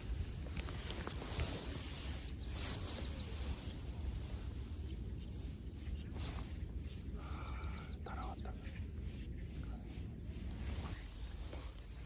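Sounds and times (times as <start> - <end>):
wind rumble on microphone: 0.0 - 12.0
faint bird chirps: 0.6 - 12.0.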